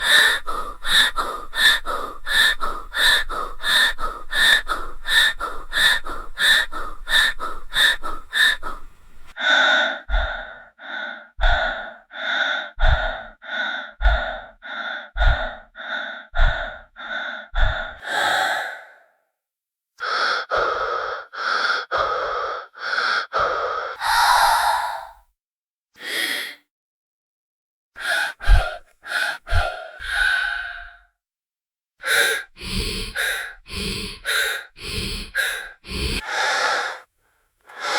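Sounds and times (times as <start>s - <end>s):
person breathing heavily: 0.0s - 19.3s, 20.0s - 25.3s, 26.0s - 26.6s, 28.0s - 31.1s, 32.0s - 37.9s.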